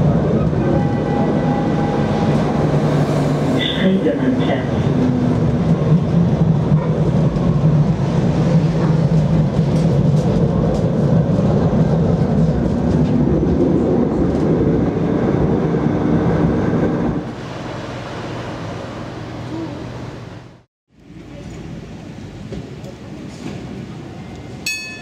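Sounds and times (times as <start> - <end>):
tram running rumble: 0.0 - 25.0.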